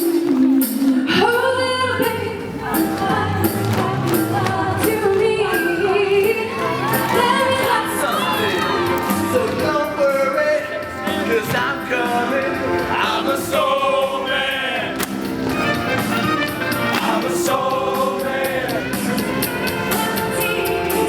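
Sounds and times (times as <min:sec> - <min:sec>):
group of people singing: 0:00.0 - 0:21.0
musical accompaniment: 0:00.0 - 0:21.0.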